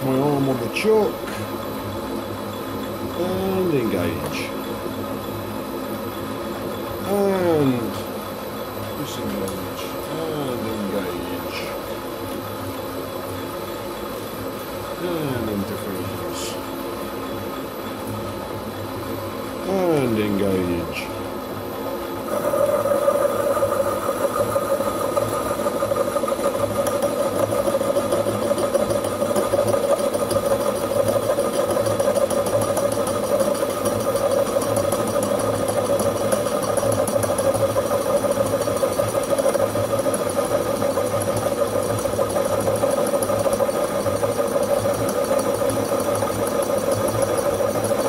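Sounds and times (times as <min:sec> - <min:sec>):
lathe gear whine and hum: 0:00.0 - 0:48.0.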